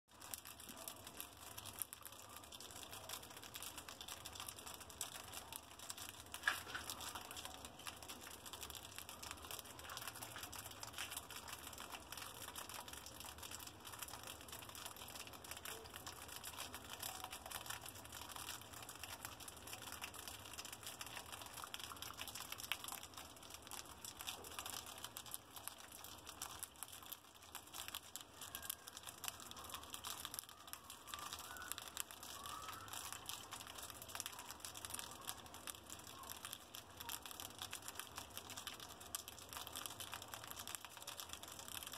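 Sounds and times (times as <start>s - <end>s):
mice crunching pellet food: 0.1s - 41.9s.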